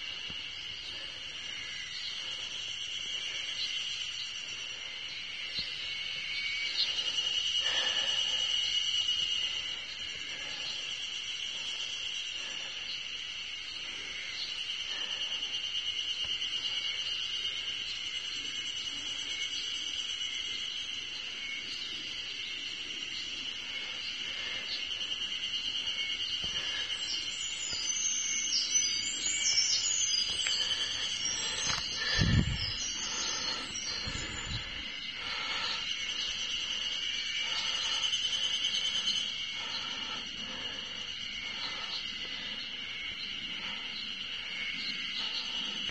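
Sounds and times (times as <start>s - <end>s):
cicadas calling: 0.0s - 45.9s.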